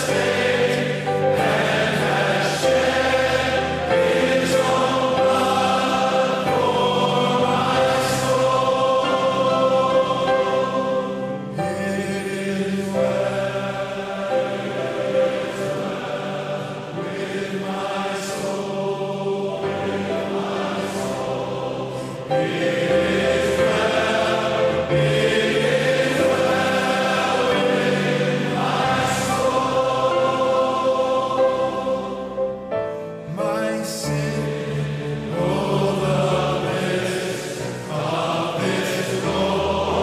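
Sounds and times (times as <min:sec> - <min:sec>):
choir and congregation singing a hymn: 0:00.0 - 0:40.0.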